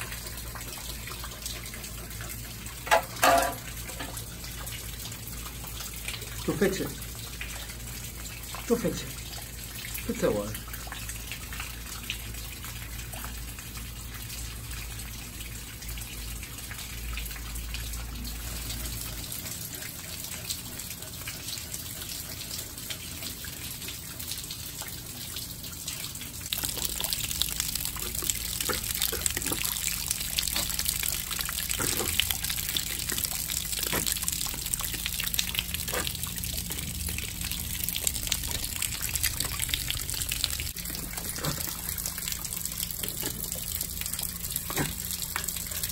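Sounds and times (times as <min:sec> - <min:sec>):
rainwater gushing down a wall: 0:00.0 - 0:45.9.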